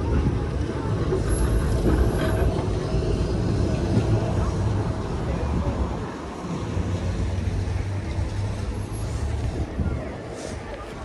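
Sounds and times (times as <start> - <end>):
tram rumbling past: 0.0 - 11.0.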